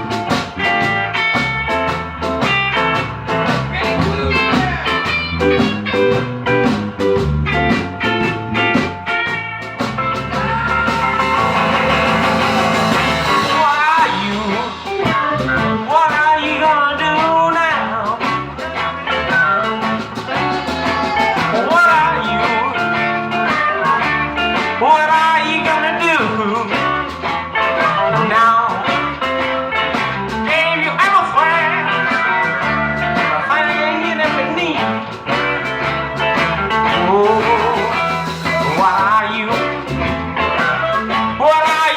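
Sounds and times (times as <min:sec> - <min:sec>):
guitar lines: 0:00.0 - 0:41.9
live blues band playing: 0:00.0 - 0:41.9.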